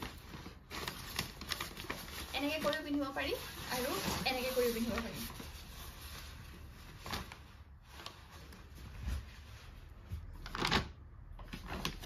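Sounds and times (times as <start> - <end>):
clothing rustling: 0.0 - 12.0
plastic bag rustling: 0.0 - 12.0.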